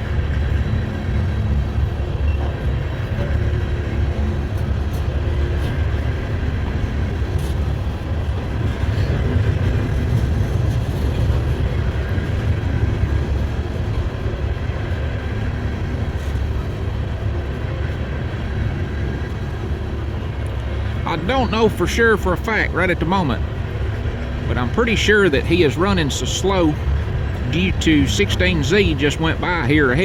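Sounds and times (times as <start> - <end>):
freight train cars rolling: 0.0 - 30.0.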